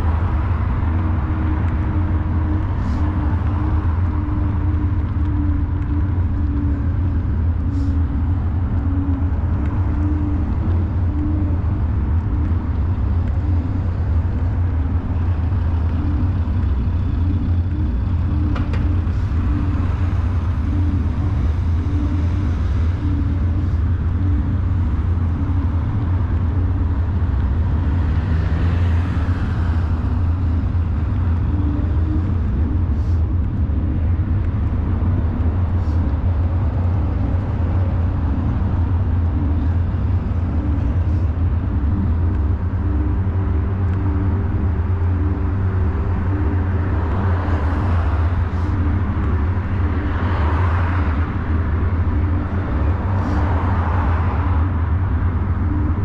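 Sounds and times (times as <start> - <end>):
motor traffic passing: 0.0 - 56.0
wind and road noise rumble: 0.0 - 56.0.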